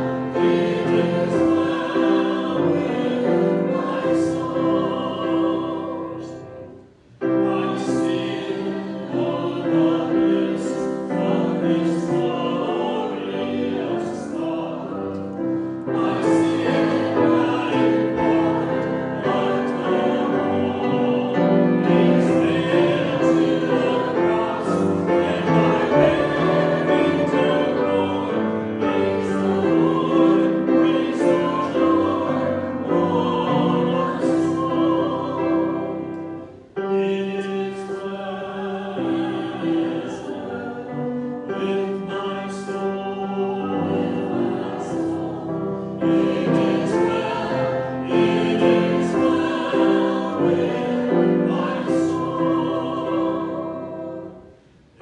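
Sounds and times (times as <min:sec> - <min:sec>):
piano accompaniment: 0:00.0 - 0:55.0
voices singing sacred song: 0:00.0 - 0:55.0.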